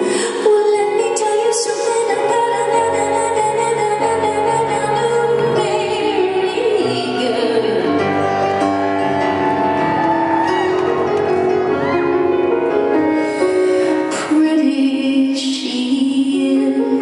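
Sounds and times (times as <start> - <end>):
grand piano with strings: 0.0 - 17.0.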